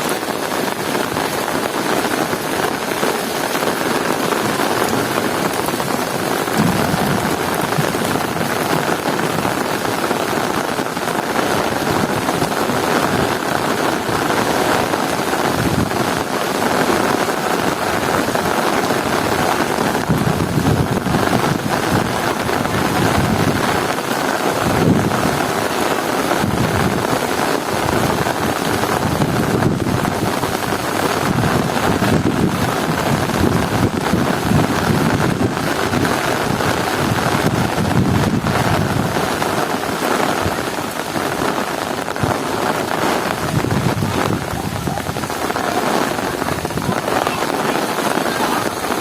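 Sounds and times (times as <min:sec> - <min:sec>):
heavy rain: 0:00.0 - 0:49.0
low thunder rumbles: 0:00.6 - 0:25.5, 0:26.4 - 0:49.0.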